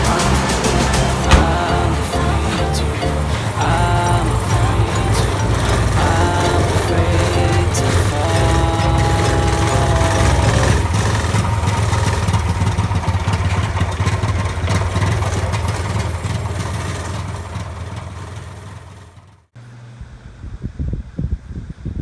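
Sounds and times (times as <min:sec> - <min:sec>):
vehicle engine running: 0:00.0 - 0:19.6.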